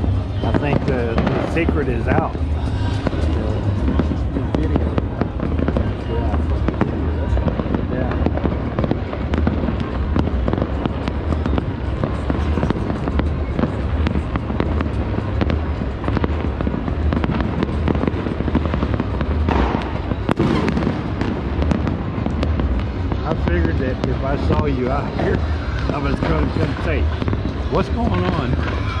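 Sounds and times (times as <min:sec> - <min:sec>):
fireworks crackling and popping: 0:00.0 - 0:29.0
sharp firework bang: 0:00.0 - 0:29.0.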